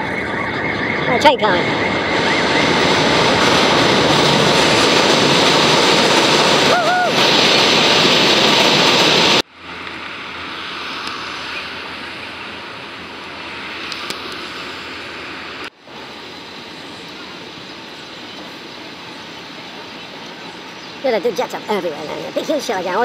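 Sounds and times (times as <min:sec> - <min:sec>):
city street traffic: 0:00.0 - 0:05.8, 0:09.3 - 0:23.0
train roaring over steel structure: 0:00.0 - 0:23.0.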